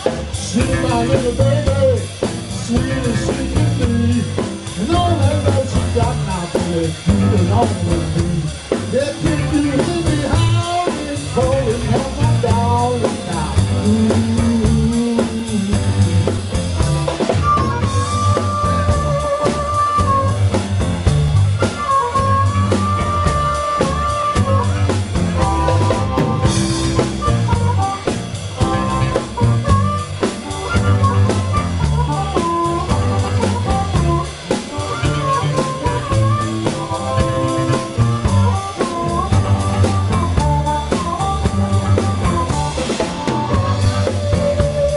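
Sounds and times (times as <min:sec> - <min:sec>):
blues band playing a shuffle: 0:00.0 - 0:44.9
drum kit: 0:00.0 - 0:44.9
electric bass: 0:00.0 - 0:44.9
harmonica bending notes: 0:00.0 - 0:44.9
stage piano: 0:00.0 - 0:44.9.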